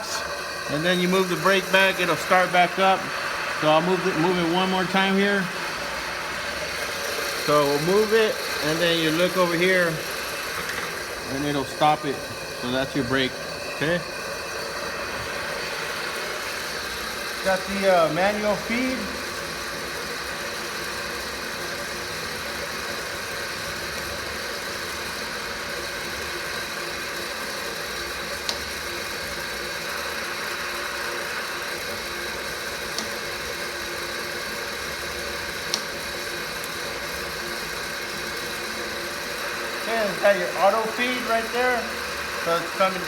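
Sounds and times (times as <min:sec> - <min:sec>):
milling machine motor humming: 0:00.0 - 0:43.0.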